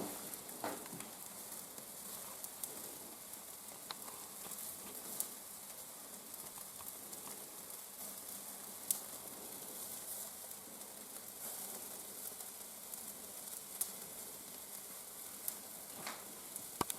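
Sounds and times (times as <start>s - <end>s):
fire popping: 0.0s - 16.9s
meat sizzling over fire: 0.0s - 16.9s.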